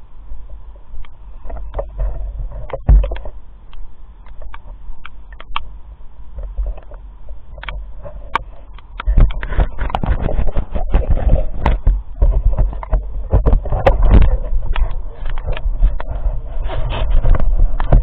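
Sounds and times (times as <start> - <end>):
wind rumble: 0.0 - 18.0.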